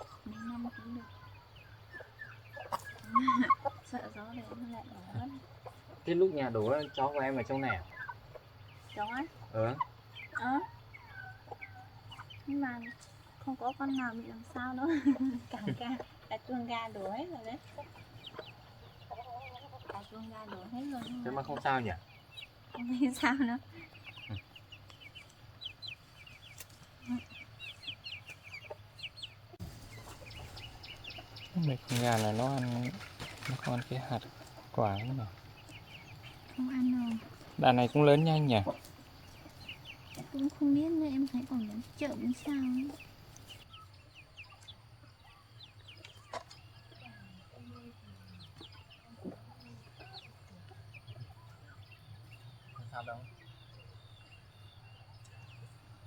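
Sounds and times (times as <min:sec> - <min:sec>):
hen clucking: 0:00.0 - 0:53.9
chicks cheeping: 0:00.0 - 0:56.0.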